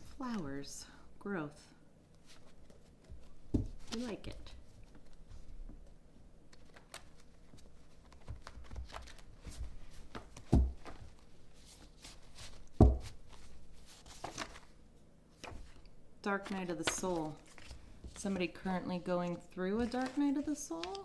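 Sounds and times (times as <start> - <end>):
cards rustling and shuffling: 2.1 - 21.0.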